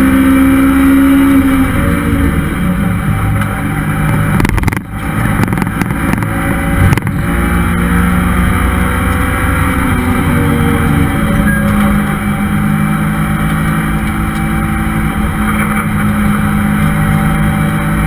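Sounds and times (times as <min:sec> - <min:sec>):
car engine running hard: 0:00.0 - 0:18.0.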